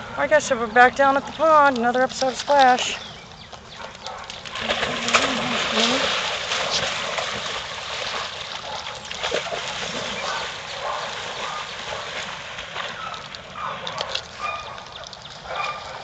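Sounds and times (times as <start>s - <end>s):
dogs splashing through water: 0.0s - 16.0s.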